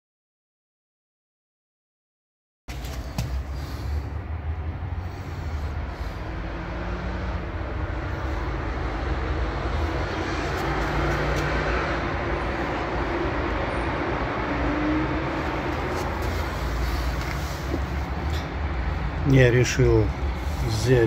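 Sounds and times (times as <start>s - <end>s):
faint engine hum: 2.7s - 21.0s
vehicle rumble: 2.7s - 21.0s.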